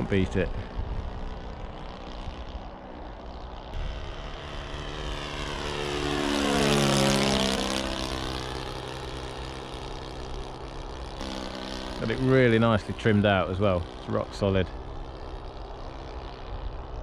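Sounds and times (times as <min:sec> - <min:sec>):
model aircraft engine passing: 0:00.0 - 0:17.0.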